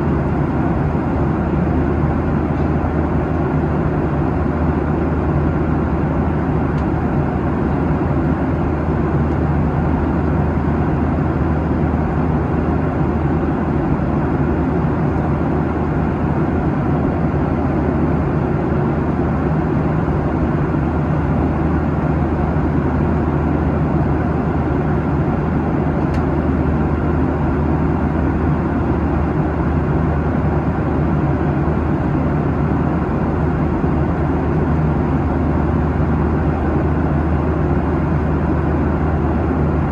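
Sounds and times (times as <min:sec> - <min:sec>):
low drone of jet engines: 0:00.0 - 0:39.9.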